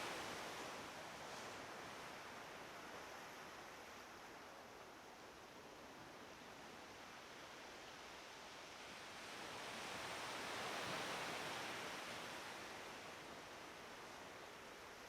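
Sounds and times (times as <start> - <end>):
gentle sea surf: 0.0 - 15.0.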